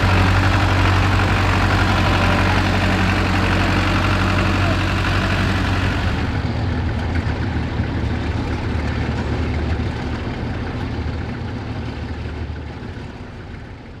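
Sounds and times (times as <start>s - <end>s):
tractor engine humming: 0.0s - 13.9s.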